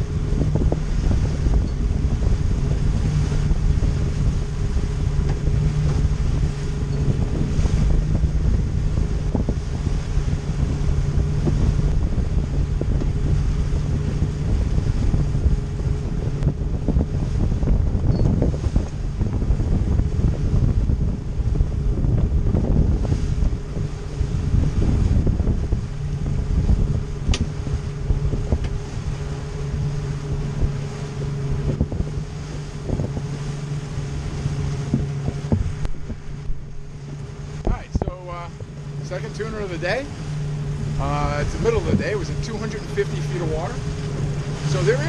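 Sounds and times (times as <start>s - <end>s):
outboard motor humming: 0.0s - 45.0s
water rushing past hull: 0.0s - 45.0s
wind buffeting microphone: 0.0s - 45.0s.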